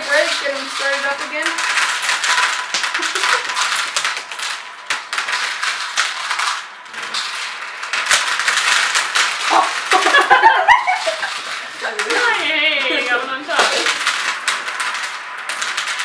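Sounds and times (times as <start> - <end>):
candies clicking on spinners: 0.0 - 16.0.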